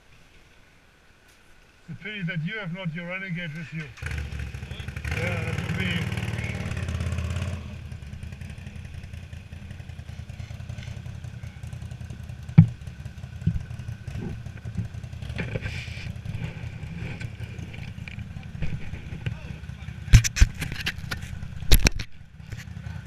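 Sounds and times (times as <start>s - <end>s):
vehicle engine idling: 3.3s - 23.0s.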